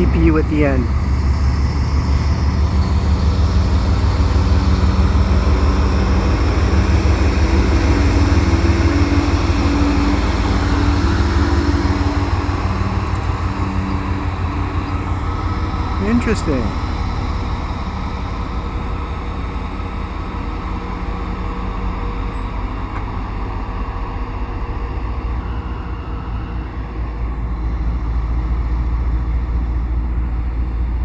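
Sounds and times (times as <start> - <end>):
diesel locomotive engine: 0.0 - 31.0
train wheels rumbling on rail: 0.0 - 31.0.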